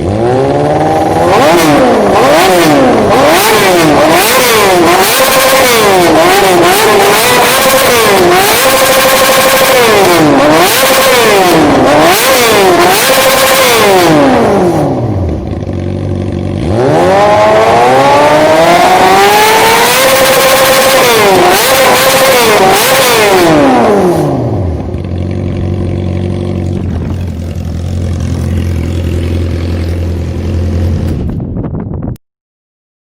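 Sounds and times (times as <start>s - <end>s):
motorcycle engine revving: 0.0s - 31.6s.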